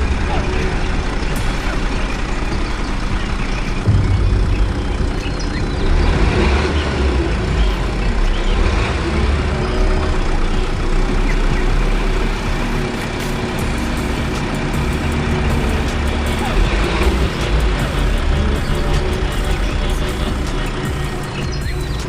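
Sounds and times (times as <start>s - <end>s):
heavy vehicle engine rumble: 0.0s - 22.0s.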